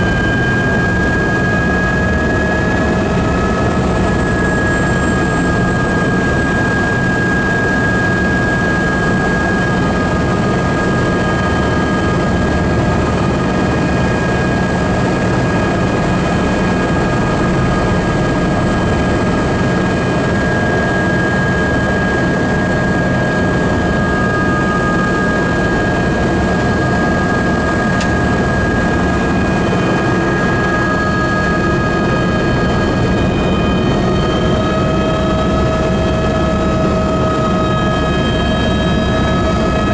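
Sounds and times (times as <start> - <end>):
helicopter engine and rotor noise: 0.0 - 39.9
high turbine whine: 0.0 - 39.9.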